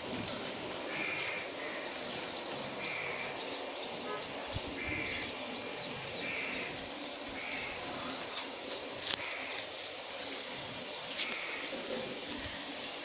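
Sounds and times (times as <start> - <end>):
background hiss: 0.0 - 13.0
birds chirping: 0.0 - 13.0.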